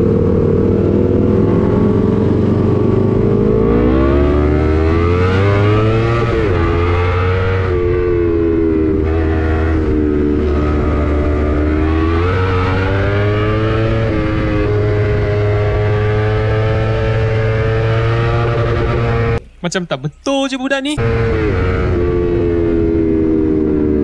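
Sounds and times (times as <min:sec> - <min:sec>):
motorcycle accelerating: 0:00.0 - 0:19.6, 0:21.0 - 0:24.0.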